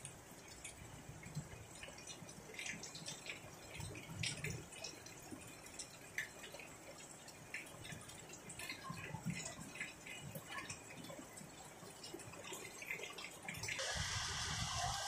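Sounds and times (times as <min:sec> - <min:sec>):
water drips: 0:00.0 - 0:13.9
light rain on concrete: 0:00.0 - 0:15.0.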